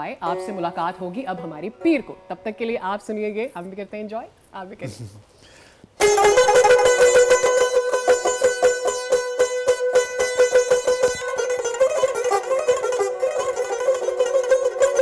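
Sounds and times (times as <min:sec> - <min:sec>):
tar tremolo picking: 0:00.0 - 0:03.1, 0:06.0 - 0:15.0.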